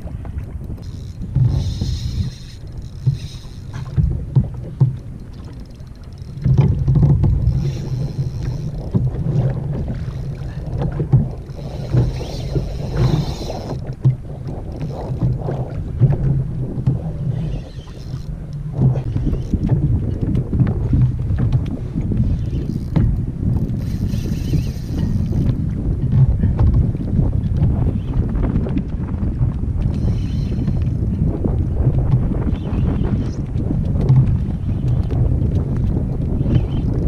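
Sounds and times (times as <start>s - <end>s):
water lapping against kayak hull: 0.0s - 37.0s
wind buffeting microphone: 0.0s - 37.0s.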